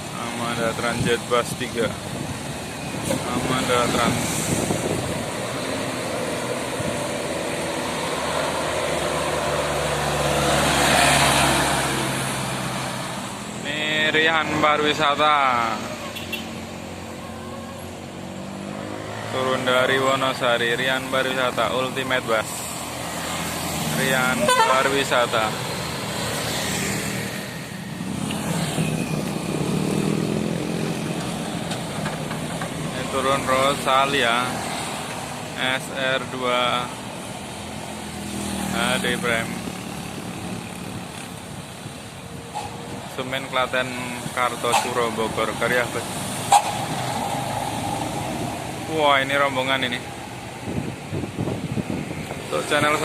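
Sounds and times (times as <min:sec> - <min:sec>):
bus passing by: 0:00.0 - 0:53.0.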